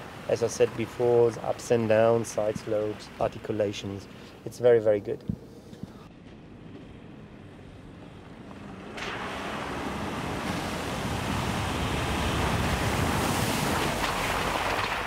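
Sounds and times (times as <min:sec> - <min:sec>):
vehicle splashing through water: 0:00.0 - 0:04.3, 0:06.9 - 0:15.0.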